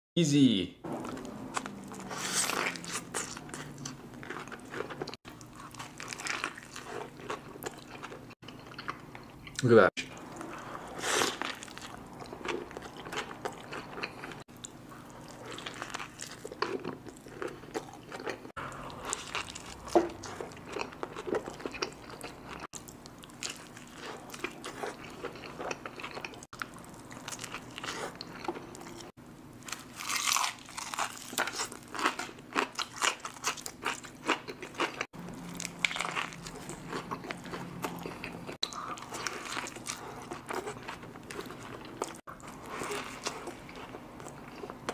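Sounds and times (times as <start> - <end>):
chewing: 1.0 - 29.1, 29.7 - 44.9.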